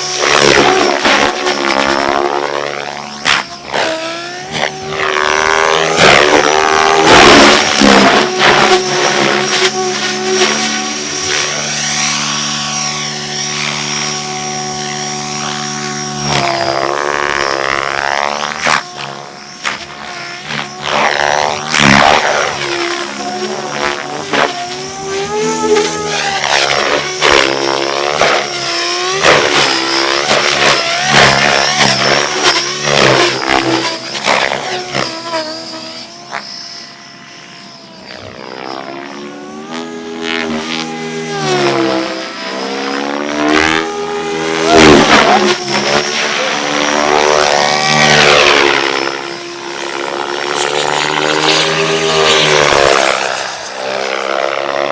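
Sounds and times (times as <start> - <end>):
rc helicopter engine and rotor: 0.0 - 54.9
steady high whine: 0.0 - 54.9.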